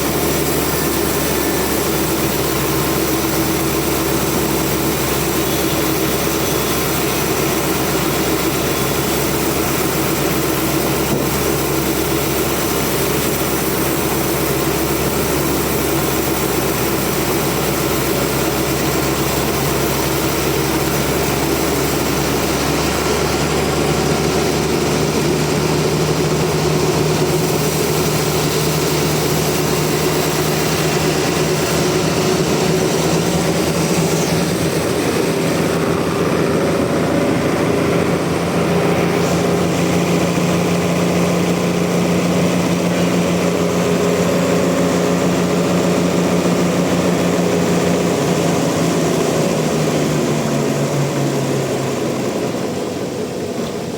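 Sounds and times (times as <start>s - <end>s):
sawmill machinery droning: 0.0s - 53.9s.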